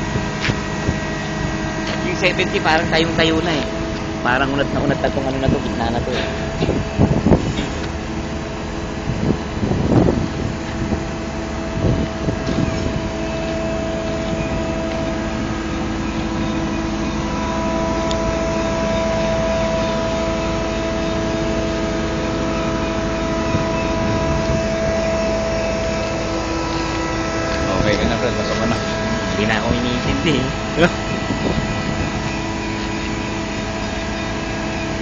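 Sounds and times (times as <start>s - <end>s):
crane engine running: 0.0s - 35.0s
whine of level tones: 0.0s - 35.0s.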